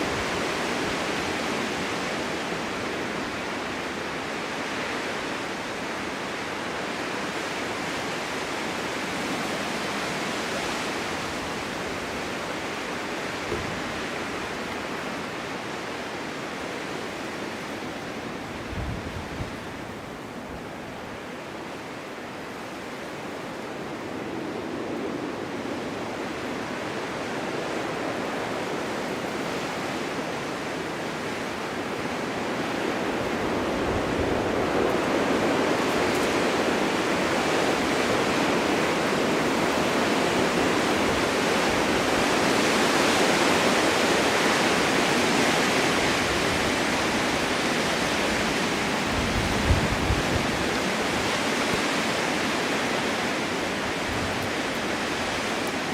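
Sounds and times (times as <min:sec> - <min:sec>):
wind rushing through forest: 0:00.0 - 0:55.9.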